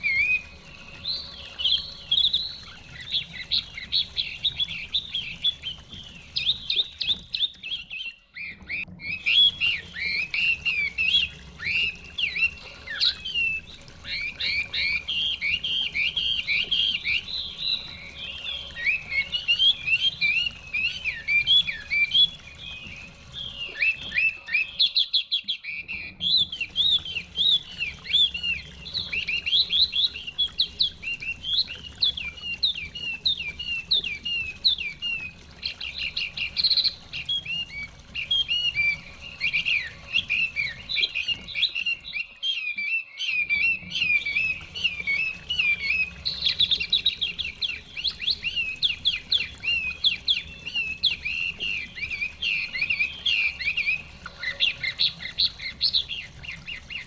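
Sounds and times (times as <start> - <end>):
songbird whistling phrases: 0.0 - 57.0
stream water running: 0.0 - 57.0.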